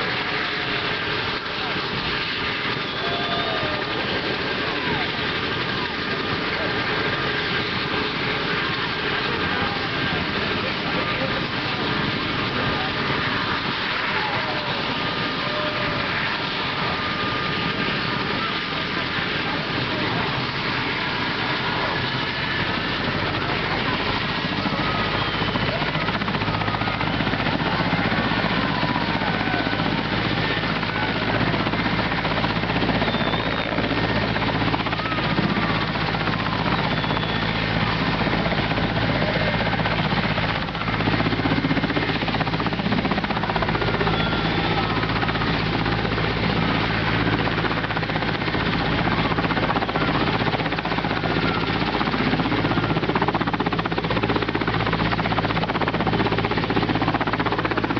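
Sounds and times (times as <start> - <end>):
helicopter rotor and turbine noise: 0.0 - 57.9.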